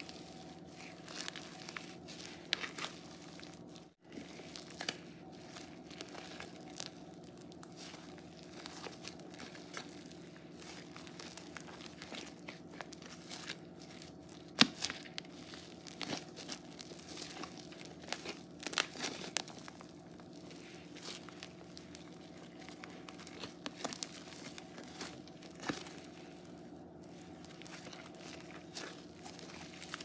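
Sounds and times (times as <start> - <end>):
foam slime crackling and popping: 0.0 - 30.0.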